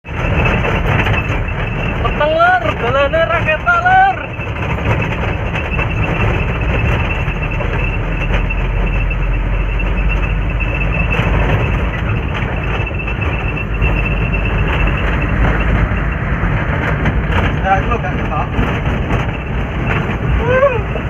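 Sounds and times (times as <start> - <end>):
vehicle running on road: 0.0 - 21.0.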